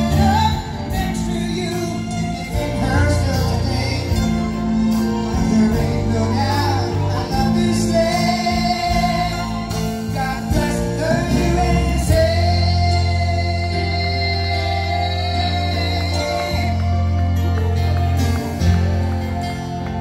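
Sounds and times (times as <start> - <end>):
band and orchestra playing ballad: 0.0 - 20.0
person singing: 0.0 - 20.0.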